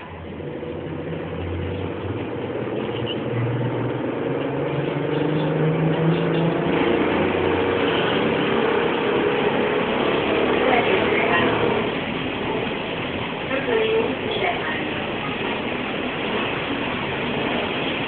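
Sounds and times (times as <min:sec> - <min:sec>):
trolleybus electric drive humming: 0:00.0 - 0:18.0
vehicle running noise: 0:00.0 - 0:18.0.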